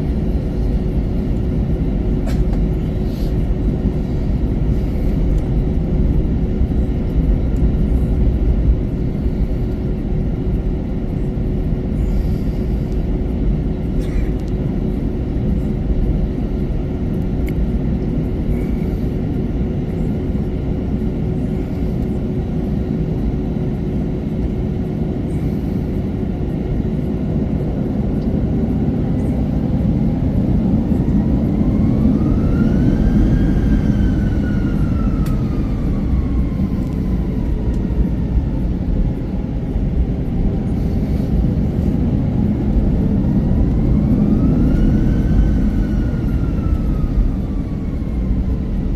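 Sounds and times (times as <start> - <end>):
aircraft cabin rumble and hum: 0.0 - 48.9
engine whine rising: 0.0 - 48.9.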